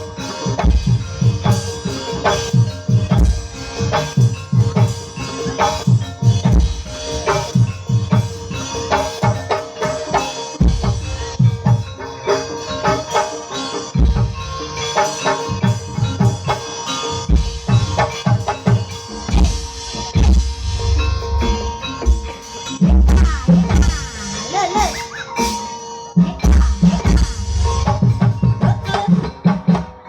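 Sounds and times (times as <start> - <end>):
gamelan music: 0.0 - 30.0
hand drums beating: 0.0 - 30.0
struck bronze keys and gongs: 0.0 - 30.0.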